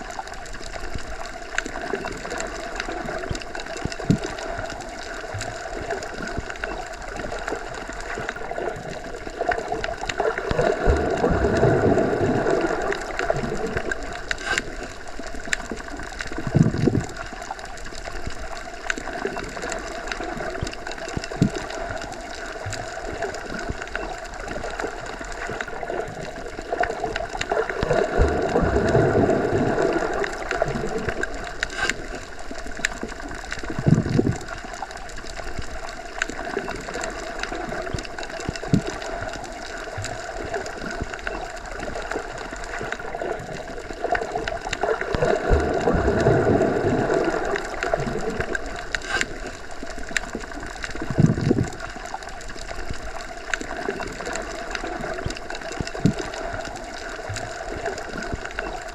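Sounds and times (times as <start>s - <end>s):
low bubbly surges: 0.0s - 58.9s
underwater churning and gurgling: 0.0s - 58.9s.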